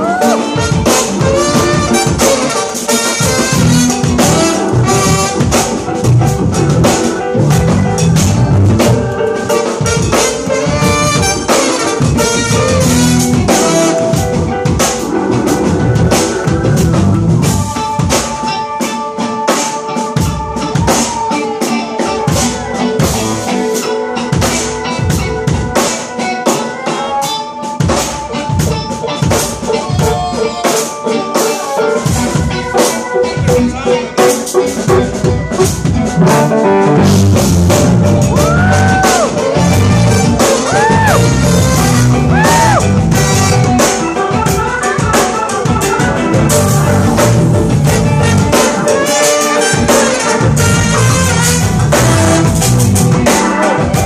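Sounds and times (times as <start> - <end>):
jazz-funk band playing: 0.0 - 54.0.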